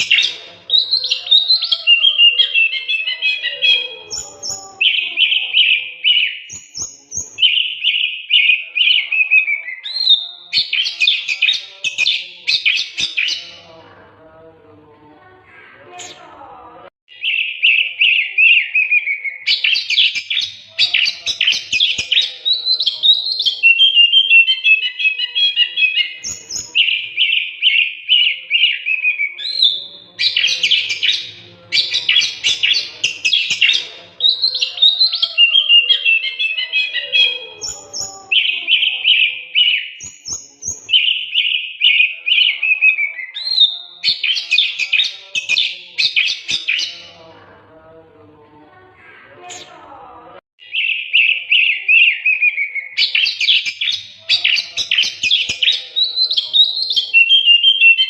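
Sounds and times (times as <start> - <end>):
bird singing varied phrases: 0.0 - 13.8, 17.1 - 47.2, 50.6 - 58.0.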